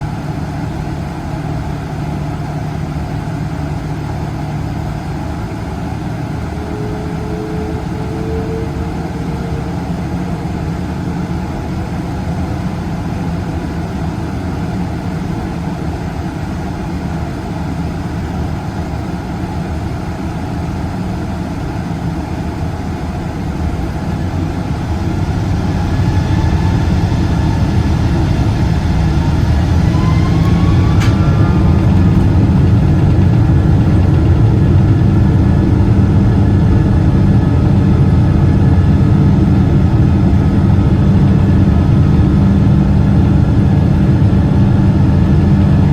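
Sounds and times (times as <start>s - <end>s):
jet engine rumble: 0.0s - 45.9s
rising engine whine: 0.0s - 45.9s.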